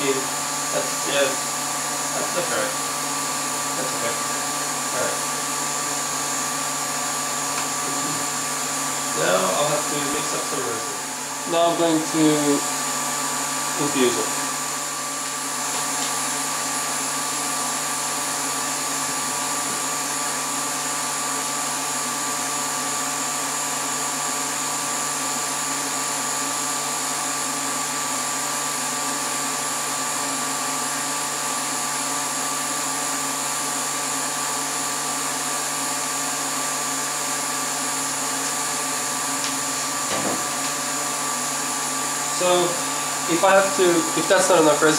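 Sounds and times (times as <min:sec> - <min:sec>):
vacuum pump humming: 0:00.0 - 0:44.9.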